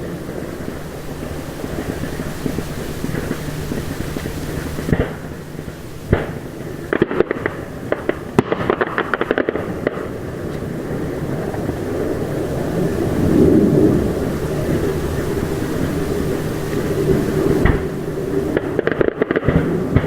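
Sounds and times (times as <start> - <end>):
low rumble: 0.0 - 8.4, 9.8 - 18.8
crackling firework reports: 0.0 - 20.0
firework bursts: 0.0 - 20.0.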